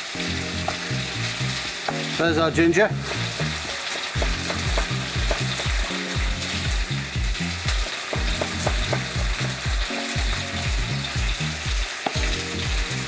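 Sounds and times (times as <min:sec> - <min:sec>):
steak sizzling in a pan: 0:00.0 - 0:13.0.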